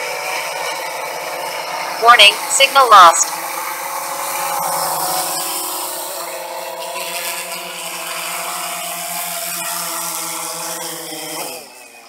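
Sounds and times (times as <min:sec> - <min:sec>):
drone propellers buzzing: 0:00.0 - 0:11.8.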